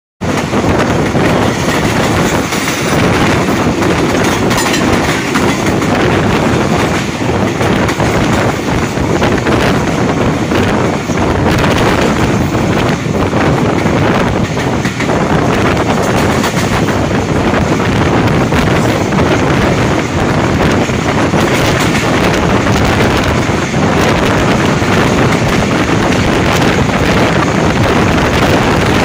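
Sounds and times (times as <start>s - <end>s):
rush of train wheels and air: 0.2s - 29.0s.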